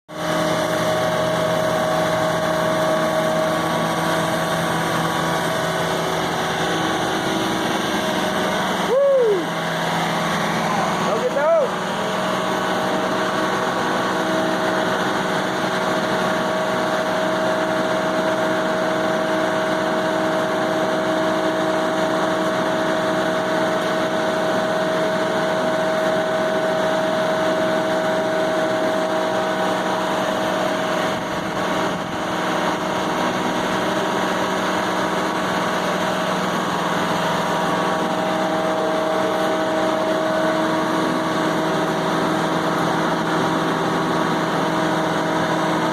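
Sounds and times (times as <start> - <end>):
engine running steadily: 0.1 - 45.9
steady whine: 0.1 - 45.9.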